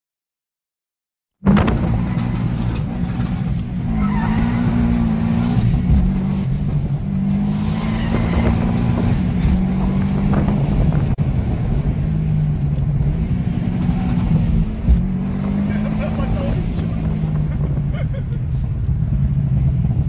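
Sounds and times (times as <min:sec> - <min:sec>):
car engine under load: 0:01.4 - 0:20.0.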